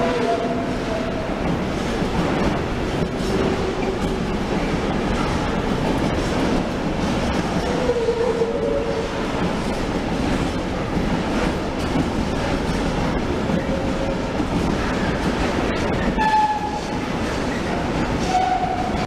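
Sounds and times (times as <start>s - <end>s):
freight train wagons rolling: 0.0s - 19.0s
wheels clicking at rail joints: 0.0s - 19.0s.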